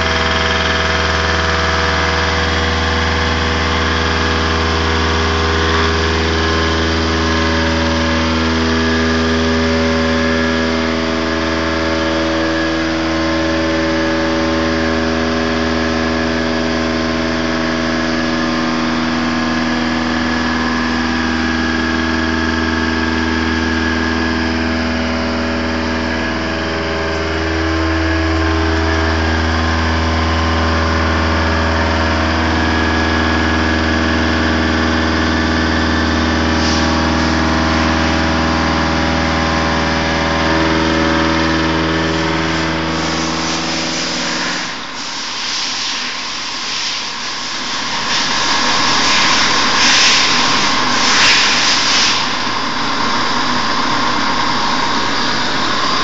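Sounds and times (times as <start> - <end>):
milling machine hum: 0.0 - 56.0
rough metal cutting noise with whine: 0.0 - 56.0.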